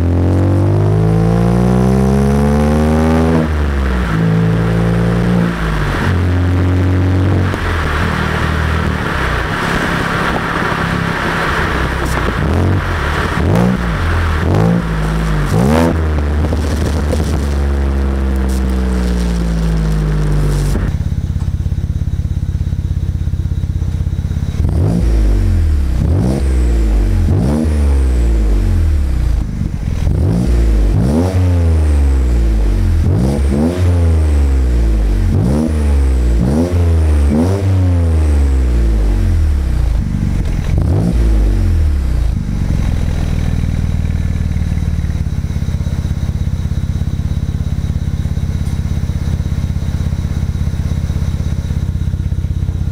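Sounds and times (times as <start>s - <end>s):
car engine revving: 0.0s - 52.9s.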